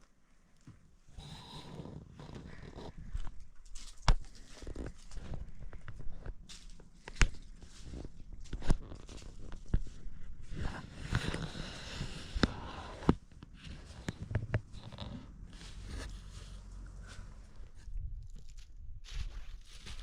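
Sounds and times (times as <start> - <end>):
rustling: 0.6 - 20.0.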